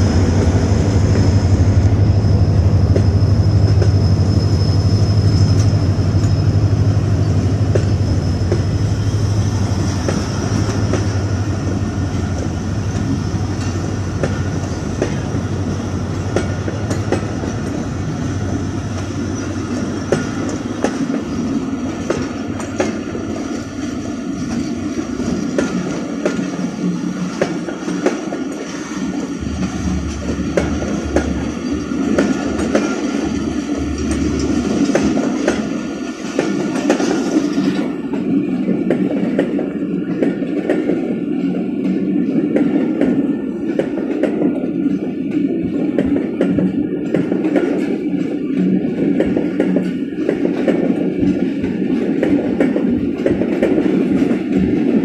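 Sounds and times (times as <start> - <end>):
train rumble: 0.0 - 55.0
train wheels clacking over rail joints: 7.2 - 55.0.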